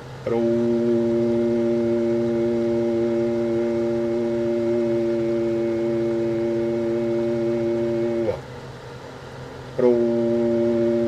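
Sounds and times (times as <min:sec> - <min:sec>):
amplifier buzzing hum: 0:00.0 - 0:11.0.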